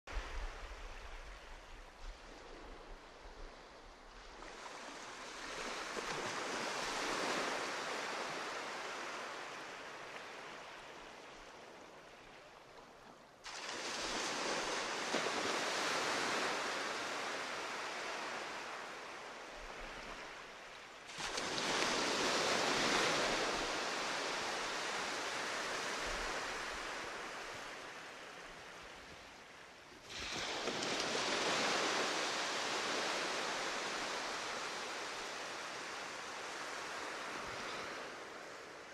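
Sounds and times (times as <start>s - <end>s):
sea surf washing ashore: 0.1s - 38.9s.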